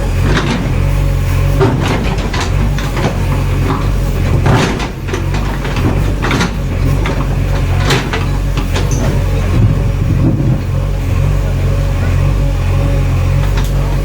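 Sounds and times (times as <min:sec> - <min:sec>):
metallic clanks and knocks: 0:00.0 - 0:11.3
diesel engine running: 0:00.0 - 0:14.0.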